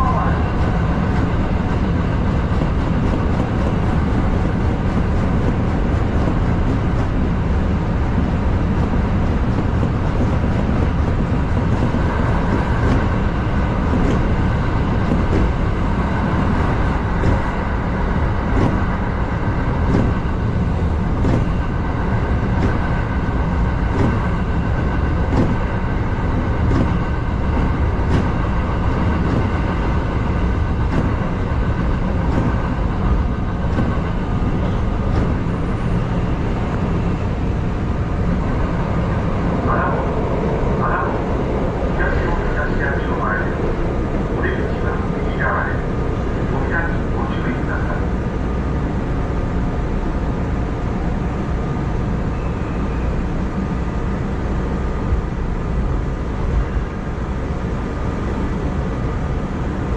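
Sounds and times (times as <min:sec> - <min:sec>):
train rumbling in tunnel: 0:00.0 - 0:59.9.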